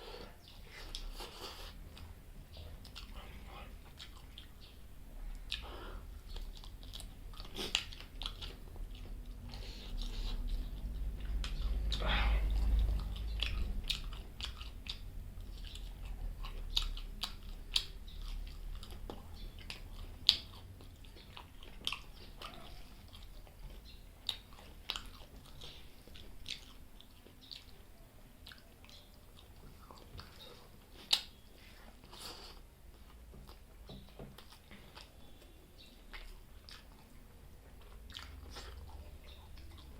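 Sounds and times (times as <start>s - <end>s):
close chewing with mouth clicks: 0.0s - 39.9s.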